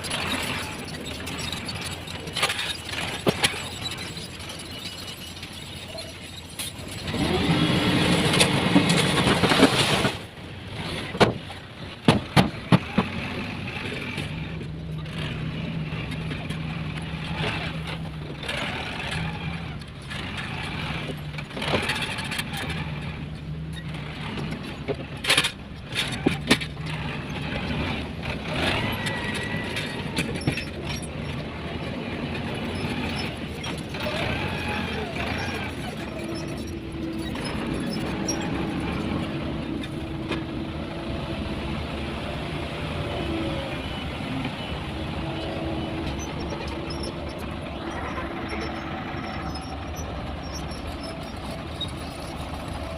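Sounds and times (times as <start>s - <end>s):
diesel machinery engine drone: 0.0s - 52.9s.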